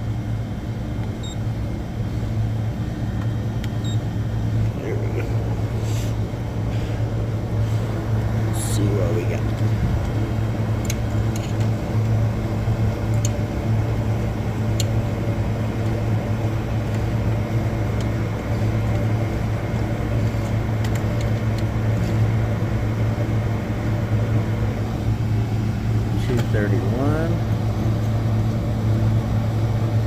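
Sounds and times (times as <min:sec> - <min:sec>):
refrigeration motor hum: 0:00.0 - 0:30.0.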